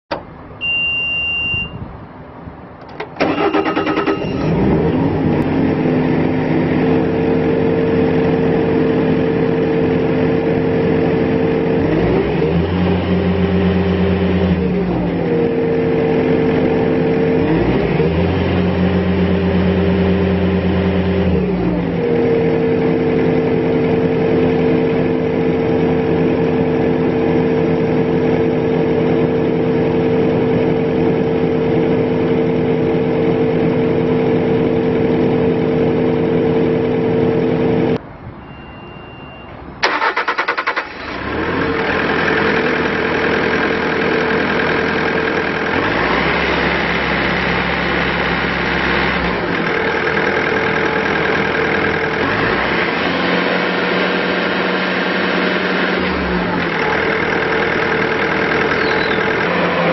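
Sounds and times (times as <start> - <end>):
diesel engine running: 1.6 - 38.0, 38.6 - 59.9.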